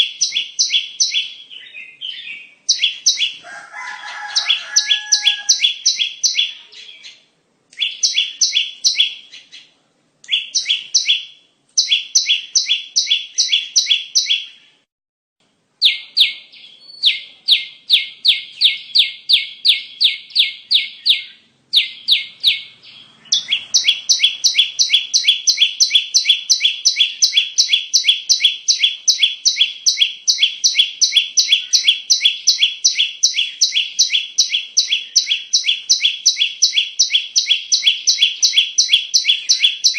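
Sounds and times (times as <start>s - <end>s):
bird sharp chirps: 0.0s - 14.8s, 15.8s - 39.9s.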